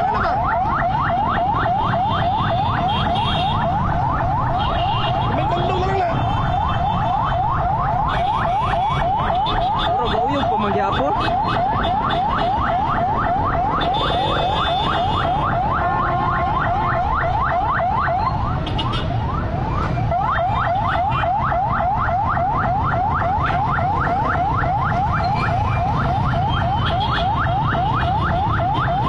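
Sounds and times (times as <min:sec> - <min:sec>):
low rumble of street noise: 0:00.0 - 0:29.0.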